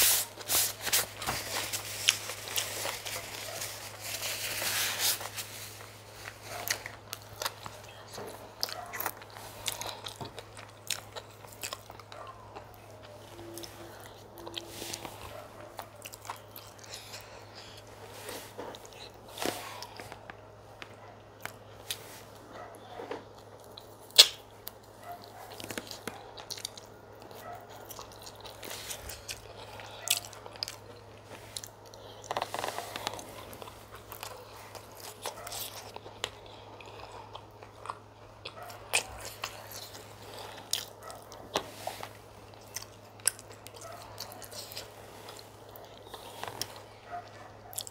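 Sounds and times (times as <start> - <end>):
steady low hum: 0.0 - 47.9
chewing and biting food: 1.0 - 4.6, 5.2 - 18.0, 18.7 - 47.9.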